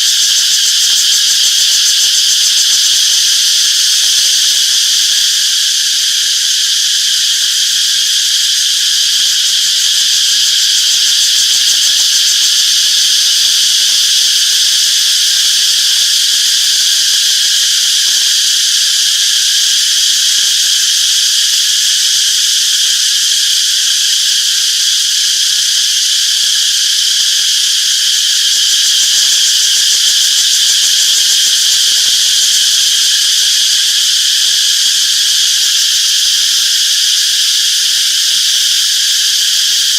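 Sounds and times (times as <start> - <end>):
cicadas chorus: 0.0 - 39.9.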